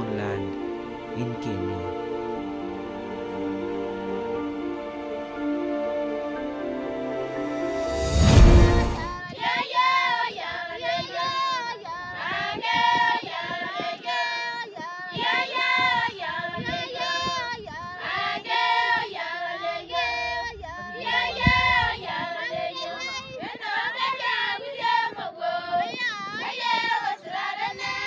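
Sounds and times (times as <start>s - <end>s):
high voices singing: 0.0s - 28.0s.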